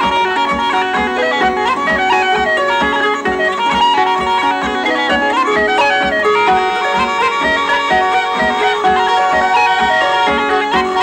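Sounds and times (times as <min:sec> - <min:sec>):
harp: 0:00.0 - 0:11.0
uilleann pipes playing a tune: 0:00.0 - 0:11.0.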